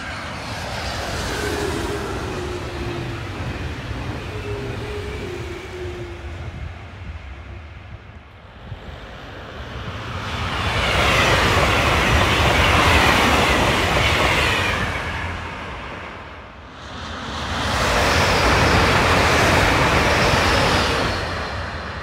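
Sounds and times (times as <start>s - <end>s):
electric train passing: 0.0s - 22.0s
high-speed train rushing past: 0.0s - 22.0s.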